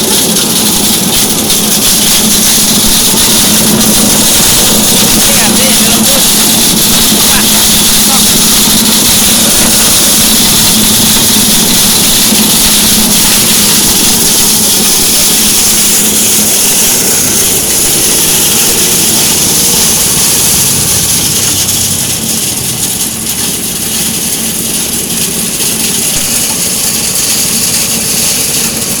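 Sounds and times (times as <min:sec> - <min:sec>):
petrol engine running: 0:00.0 - 0:29.0
steady hiss: 0:00.1 - 0:29.0.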